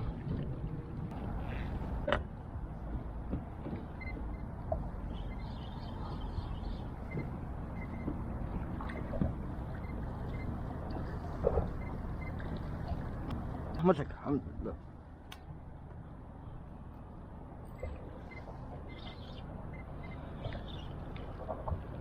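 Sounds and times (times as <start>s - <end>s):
water moving around kayak: 0.0s - 13.8s, 16.9s - 22.0s.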